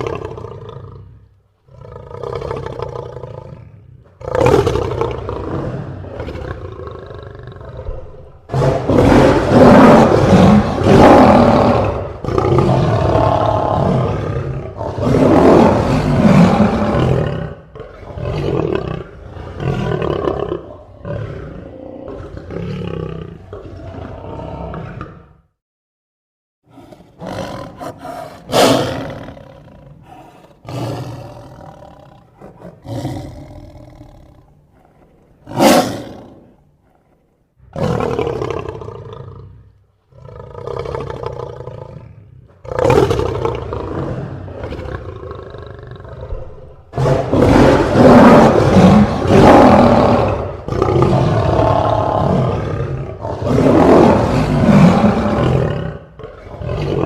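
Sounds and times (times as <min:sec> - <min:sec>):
lions roaring: 0:01.7 - 0:25.3, 0:26.7 - 0:57.0.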